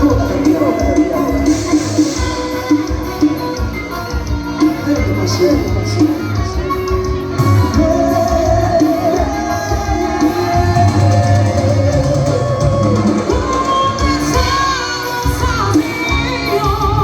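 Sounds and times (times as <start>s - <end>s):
steady bass accompaniment: 0.0s - 17.0s.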